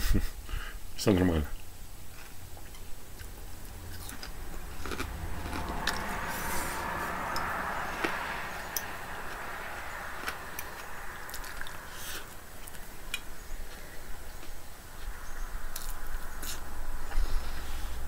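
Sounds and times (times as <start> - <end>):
soft chewing: 1.6 - 17.9.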